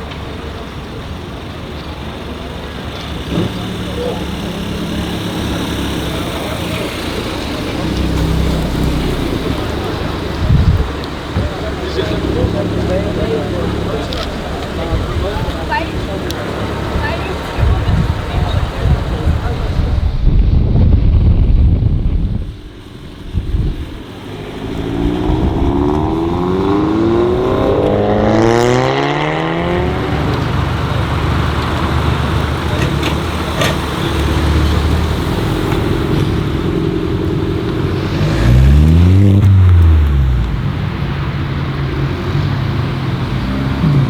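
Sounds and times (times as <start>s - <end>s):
car engine accelerating and revving: 0.0s - 20.3s, 21.7s - 44.0s.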